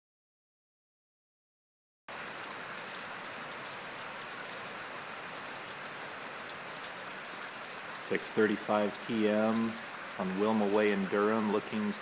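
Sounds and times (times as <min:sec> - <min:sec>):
steady rain hiss: 0:02.1 - 0:12.0.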